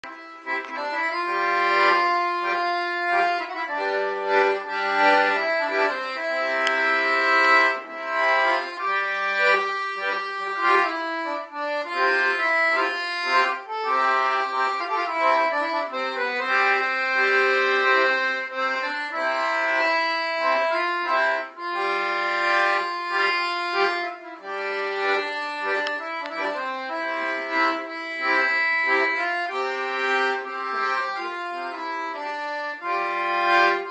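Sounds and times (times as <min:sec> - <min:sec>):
solo accordion folk tune: 0:00.0 - 0:33.9.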